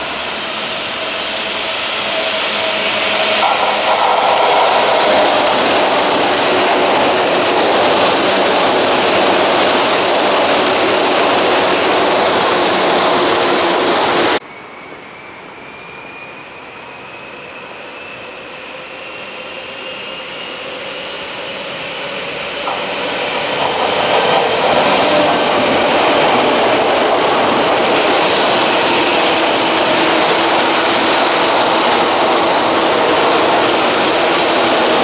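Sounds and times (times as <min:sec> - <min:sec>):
electric train passing: 0:00.0 - 0:35.0
wheels rumbling on rail: 0:00.0 - 0:35.0.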